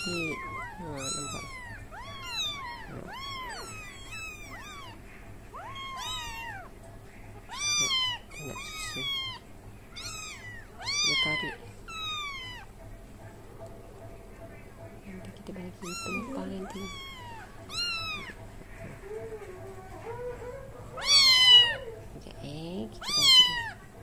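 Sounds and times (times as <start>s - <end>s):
kittens mewing: 0.0s - 12.8s, 15.6s - 22.2s, 23.0s - 24.0s.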